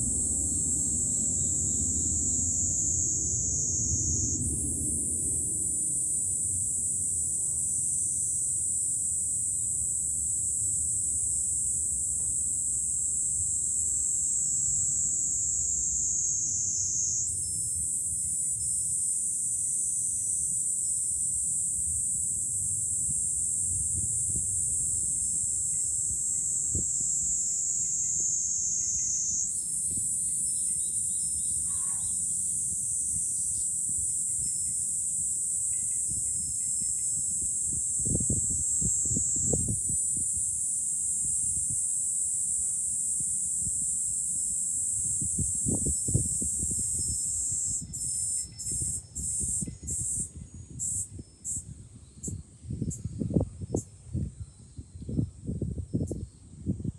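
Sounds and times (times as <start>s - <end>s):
low wind rumble: 0.0s - 18.2s, 21.2s - 56.9s
cicadas singing: 0.0s - 56.7s.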